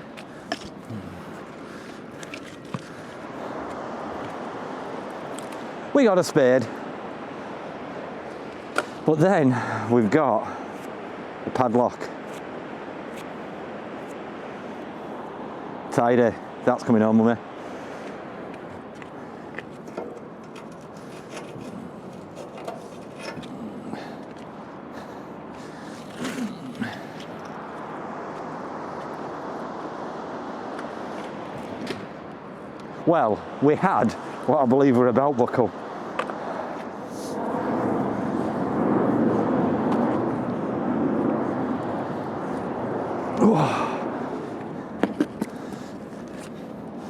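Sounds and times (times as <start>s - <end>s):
outdoor background noise: 0.0s - 47.0s.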